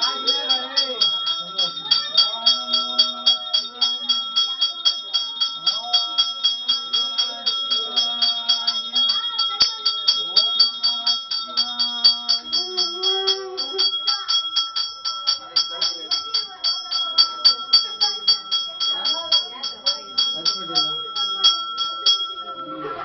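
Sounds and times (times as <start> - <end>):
bell rung rapidly: 0.0 - 23.0
voices chanting: 0.0 - 23.0.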